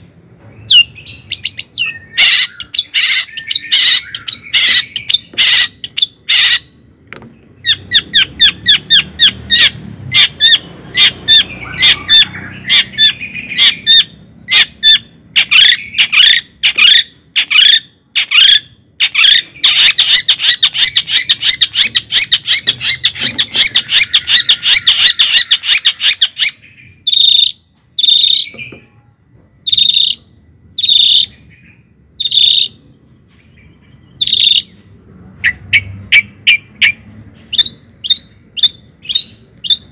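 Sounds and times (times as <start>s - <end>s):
bird chirping: 0.4s - 39.9s.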